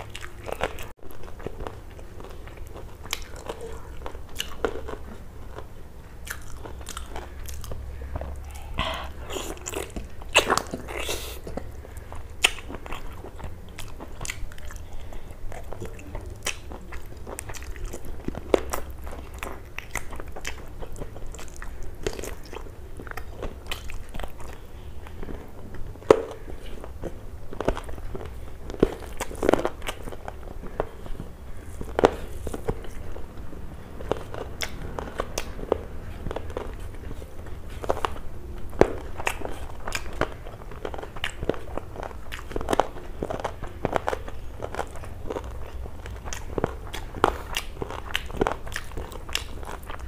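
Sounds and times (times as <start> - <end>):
chewing and mouth smacks: 0.0 - 50.0
faint low hum: 0.0 - 50.0.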